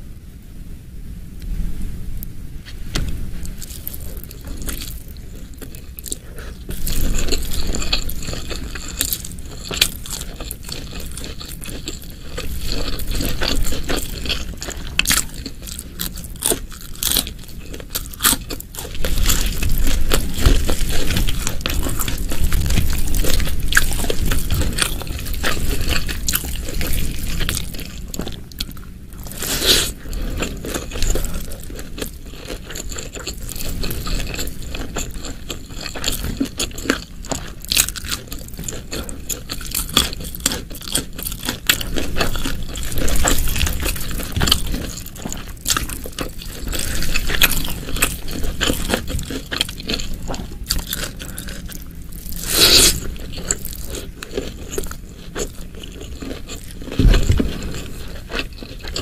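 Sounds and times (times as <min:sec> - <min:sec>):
person chewing crunchy food: 0:03.0 - 0:59.0.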